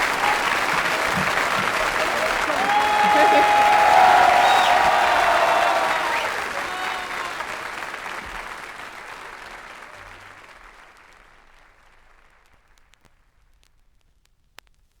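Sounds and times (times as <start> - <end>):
audience applause: 0.0 - 12.9.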